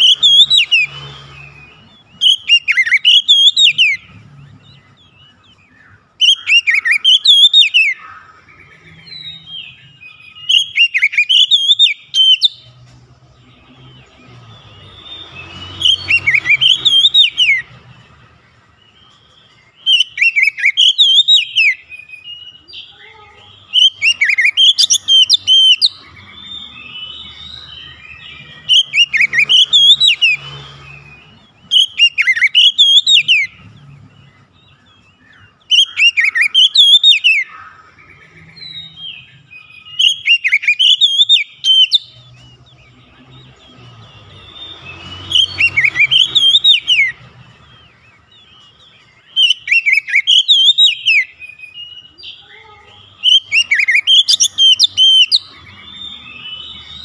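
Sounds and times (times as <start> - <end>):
bird singing whistled notes: 0.0 - 57.0.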